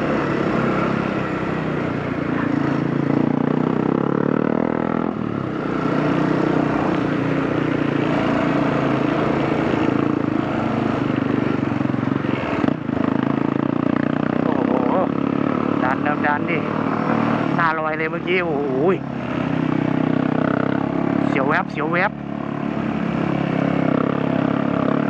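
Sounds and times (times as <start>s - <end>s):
motorcycle engine pulling uphill: 0.0s - 25.0s.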